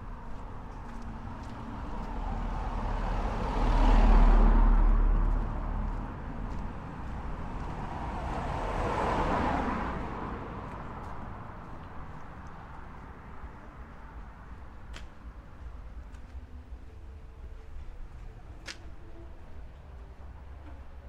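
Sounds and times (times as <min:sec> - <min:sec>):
cars passing with low rumble: 0:00.0 - 0:21.0.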